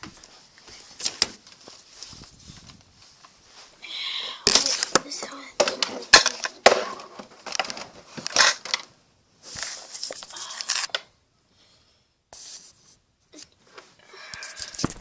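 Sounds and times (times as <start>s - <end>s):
rustling: 0.0s - 11.1s, 12.4s - 15.0s.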